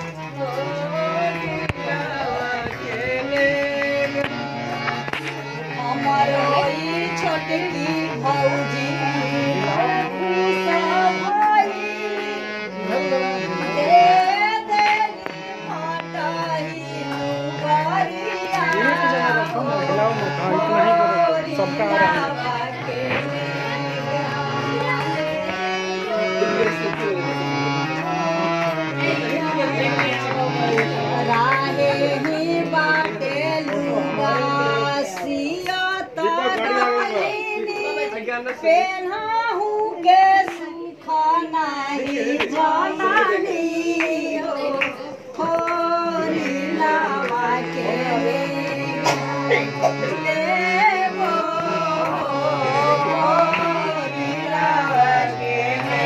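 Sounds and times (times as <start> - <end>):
women singing folk song: 0.0 - 26.4, 27.8 - 56.0
harmonium: 0.0 - 56.0.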